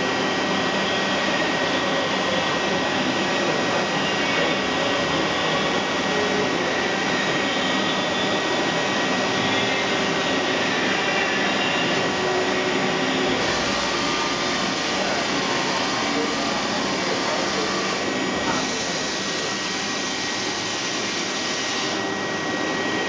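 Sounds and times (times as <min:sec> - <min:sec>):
faint high whine: 0:00.0 - 0:23.0
machine whirring hum: 0:00.0 - 0:23.0.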